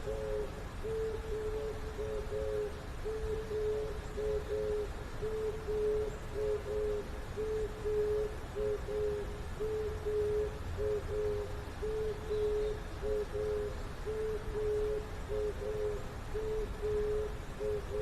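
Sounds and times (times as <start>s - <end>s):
owl hooting: 0.0s - 18.0s.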